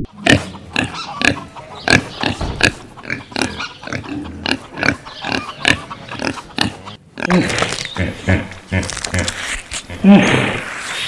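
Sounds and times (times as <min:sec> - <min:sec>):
pigs grunting and oinking: 0:00.0 - 0:10.7.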